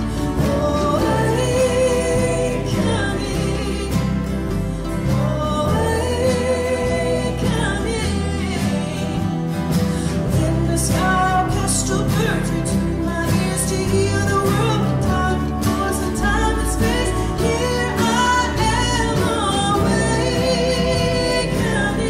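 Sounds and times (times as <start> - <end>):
bass line: 0.0 - 22.0
strummed acoustic guitars: 0.0 - 22.0
woman singing: 0.0 - 22.0.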